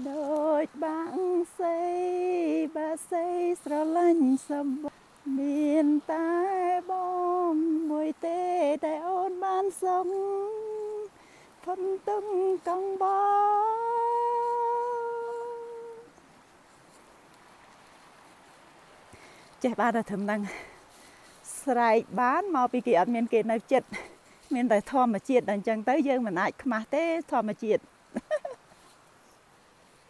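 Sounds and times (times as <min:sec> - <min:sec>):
woman singing wordless melody: 0:00.0 - 0:16.4, 0:19.2 - 0:28.9.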